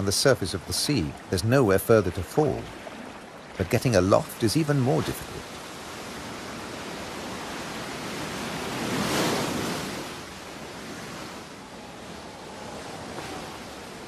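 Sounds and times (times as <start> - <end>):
sea waves washing: 0.0 - 14.0
wave breaking: 0.7 - 14.0.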